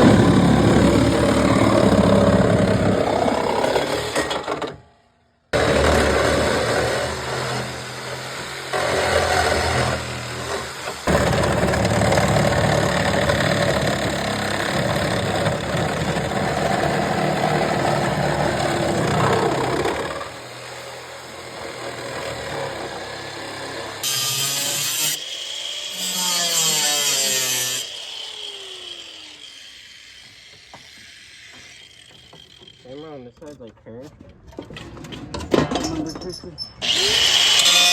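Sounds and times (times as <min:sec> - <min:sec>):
power tool cutting sheet metal: 0:00.0 - 0:04.8, 0:05.5 - 0:33.2, 0:36.8 - 0:37.9.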